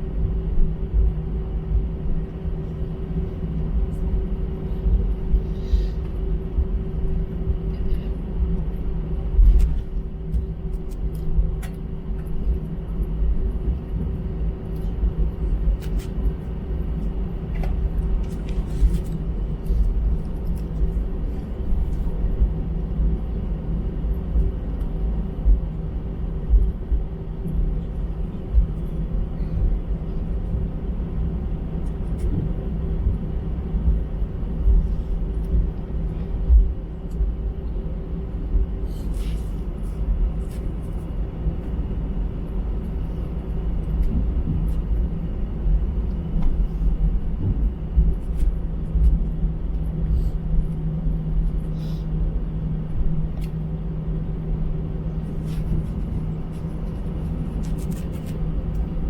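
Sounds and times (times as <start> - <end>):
aircraft cabin rumble: 0.0 - 59.0
idling jet engines hum: 0.0 - 59.0.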